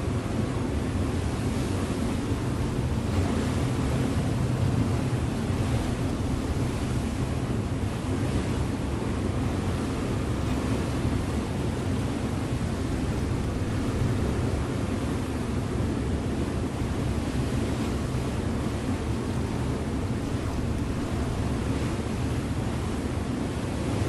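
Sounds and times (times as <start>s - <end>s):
ship engine humming: 0.0s - 24.0s
water rushing along hull: 0.0s - 24.0s
wind on microphone: 0.0s - 24.0s.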